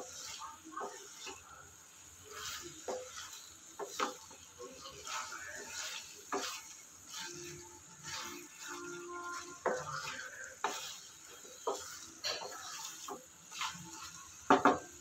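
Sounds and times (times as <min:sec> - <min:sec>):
faint sizzle of frying: 0:00.0 - 0:15.0
wooden spatula scraping metal pan: 0:00.0 - 0:15.0.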